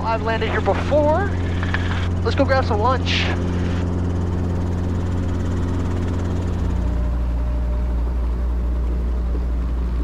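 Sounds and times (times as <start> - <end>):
helicopter engine and rotor drone: 0.0 - 10.0.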